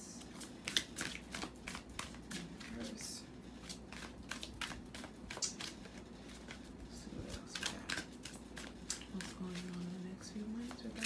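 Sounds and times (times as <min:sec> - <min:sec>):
cards being shuffled: 0:00.2 - 0:11.0.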